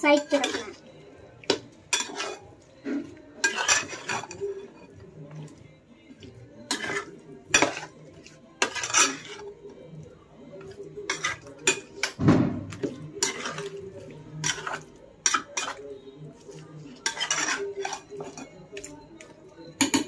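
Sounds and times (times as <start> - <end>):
metal spatula scraping steel bowl: 0.0 - 9.6, 10.6 - 20.0.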